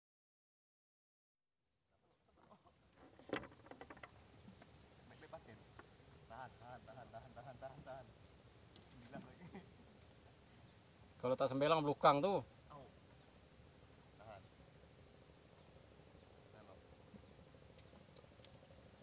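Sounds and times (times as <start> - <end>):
high-pitched insect drone: 1.7 - 19.0.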